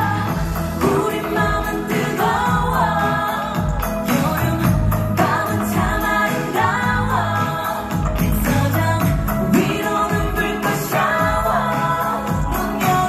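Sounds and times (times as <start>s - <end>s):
bass: 0.0s - 13.0s
percussive beat: 0.0s - 13.0s
pop backing track: 0.0s - 13.0s
woman singing: 0.0s - 13.0s.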